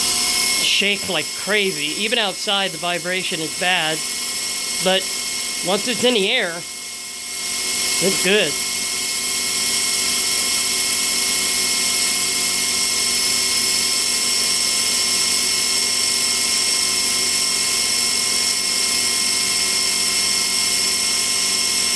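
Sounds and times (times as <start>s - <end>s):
helicopter motor high-pitched whine: 0.0s - 21.9s.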